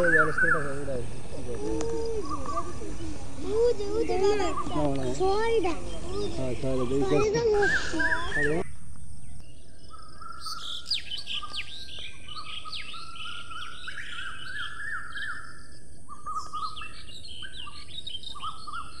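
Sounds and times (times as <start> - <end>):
small birds chirping and singing: 0.0 - 19.0.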